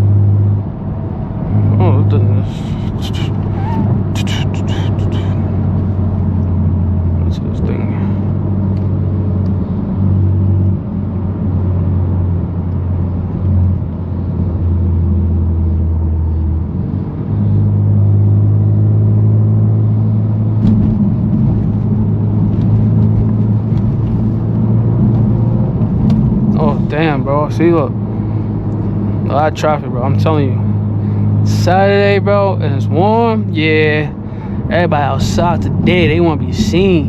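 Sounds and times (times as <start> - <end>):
car exhaust drone: 0.0 - 37.0.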